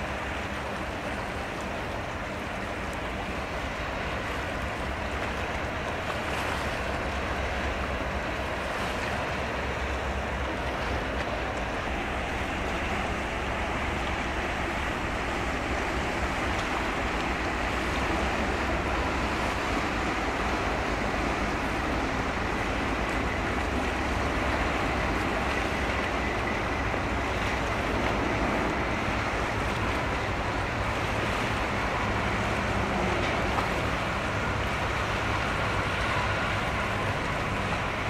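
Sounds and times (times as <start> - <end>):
water wash: 0.0 - 38.0
wind: 0.0 - 38.0.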